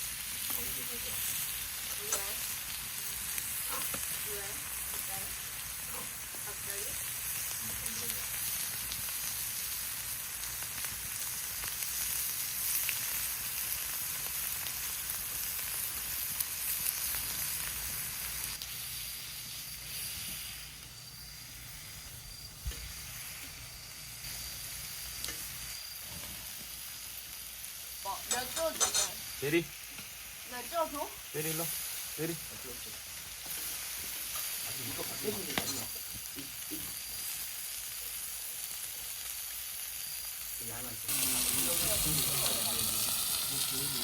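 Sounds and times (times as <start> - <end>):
meat sizzling in a pan: 0.0 - 44.0.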